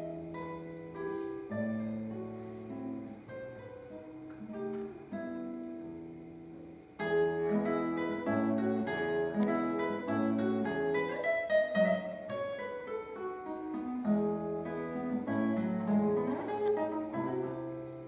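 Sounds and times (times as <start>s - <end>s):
solo classical guitar: 0.0s - 18.0s.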